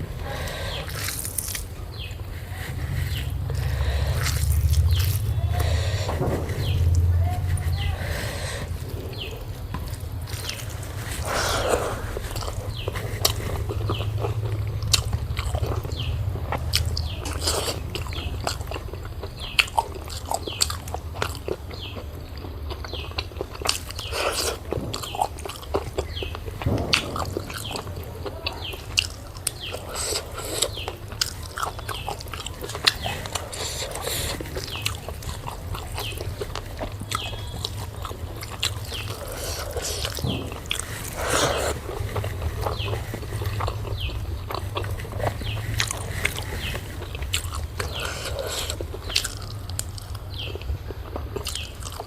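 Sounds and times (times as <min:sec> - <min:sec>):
chewing: 0:00.0 - 0:52.0
steady low hum: 0:00.0 - 0:52.0.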